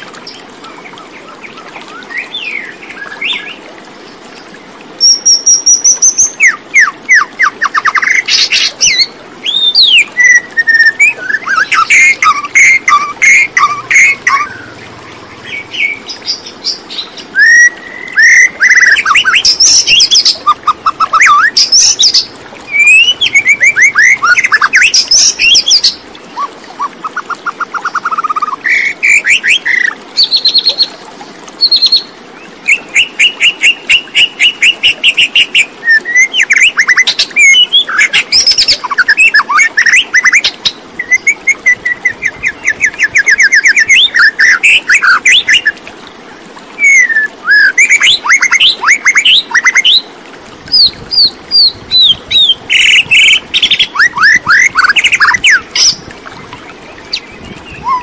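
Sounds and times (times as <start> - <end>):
birds chirping and trilling: 0.0 - 31.0, 31.6 - 50.1, 50.7 - 58.0.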